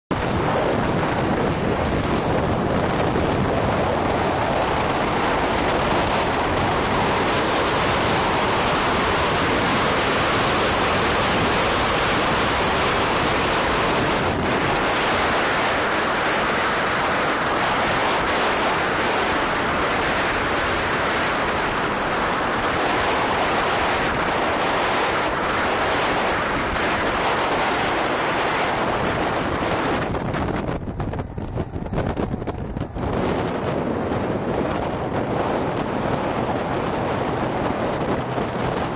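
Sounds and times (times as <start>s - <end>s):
road noise: 0.1s - 38.9s
wind rush on microphone: 0.1s - 38.9s.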